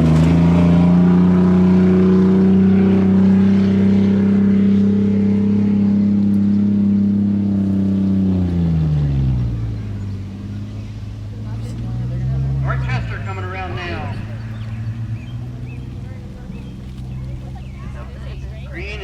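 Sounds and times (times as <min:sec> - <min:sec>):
truck engine revving high: 0:00.0 - 0:19.0.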